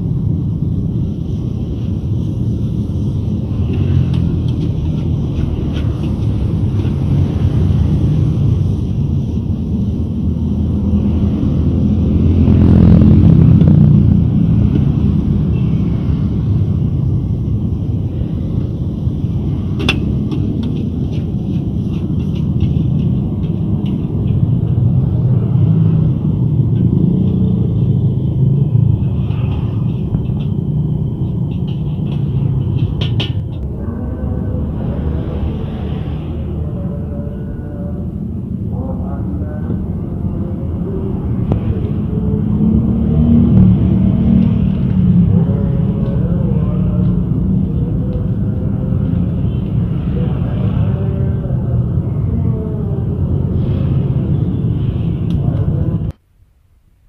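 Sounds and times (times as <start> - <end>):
low rumble: 0.0 - 56.2.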